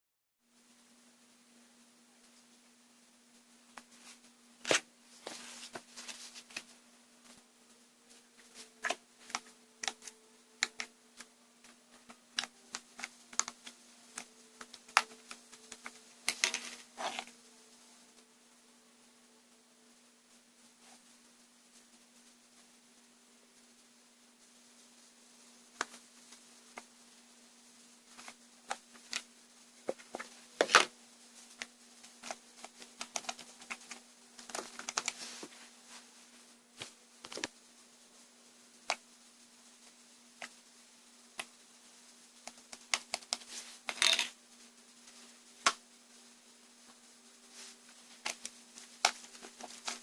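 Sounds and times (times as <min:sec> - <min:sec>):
faint steady hum: 0:00.4 - 0:50.0.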